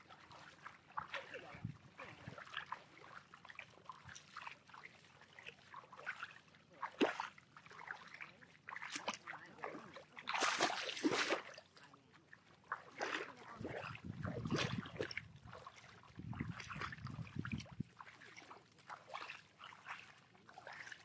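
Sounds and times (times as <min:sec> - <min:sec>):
feet splashing through water: 0:00.0 - 0:21.0.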